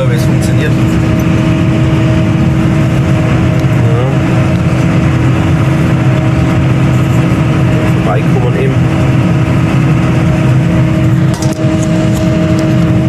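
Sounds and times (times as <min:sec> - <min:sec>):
steady whine: 0:00.0 - 0:13.0
tractor engine running: 0:00.0 - 0:13.0.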